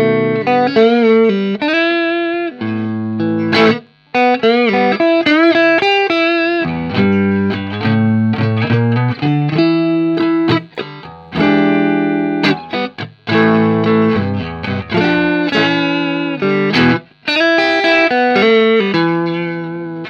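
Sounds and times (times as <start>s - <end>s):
bent guitar notes: 0.0s - 20.0s
guitar chords and plucked notes: 0.0s - 20.0s.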